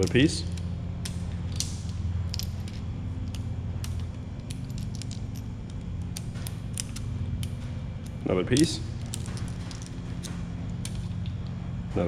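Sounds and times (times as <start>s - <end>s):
light metallic clicks and clinks: 0.0s - 11.6s
steady low hum: 0.0s - 12.0s.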